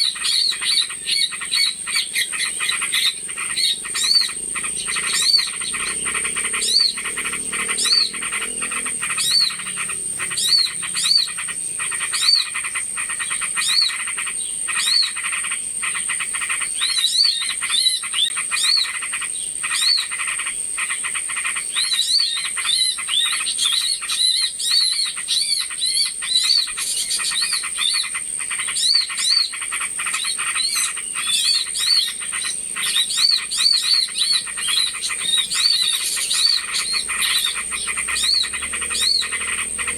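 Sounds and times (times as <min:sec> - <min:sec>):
high arched bird chirps: 0:00.0 - 0:39.9
ticking bird chatter: 0:00.0 - 0:39.9.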